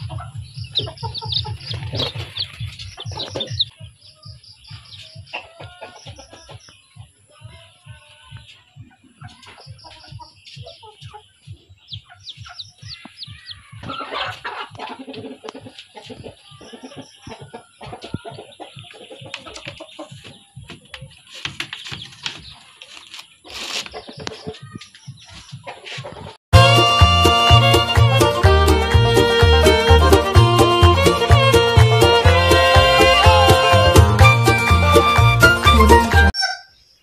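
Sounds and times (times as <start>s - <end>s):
chicks peeping: 0.0s - 37.0s.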